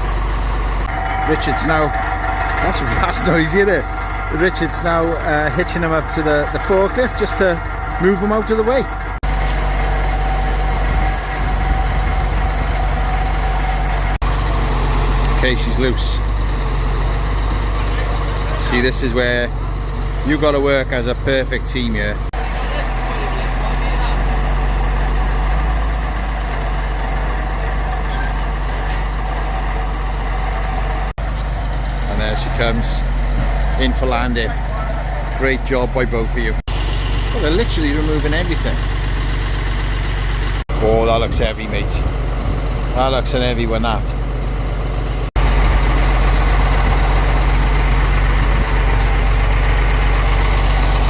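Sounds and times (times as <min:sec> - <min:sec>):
forklift engine droning: 0:00.0 - 0:51.0.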